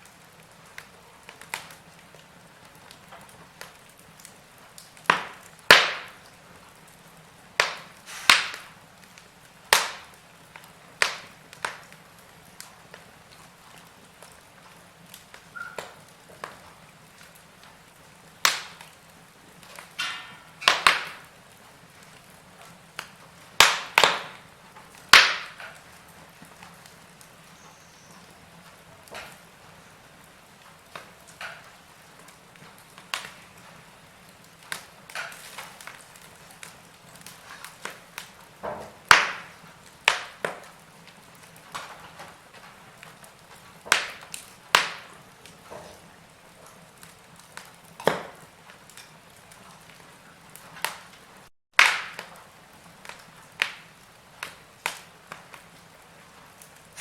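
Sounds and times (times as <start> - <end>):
sharp pops of burning wood: 0.0 - 57.0
wood fire crackling: 0.0 - 57.0.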